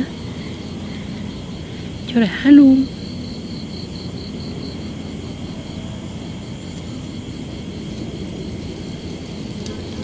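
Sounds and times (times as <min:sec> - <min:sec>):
insect chirping: 0:00.0 - 0:10.0
low rumbling noise: 0:00.0 - 0:10.0.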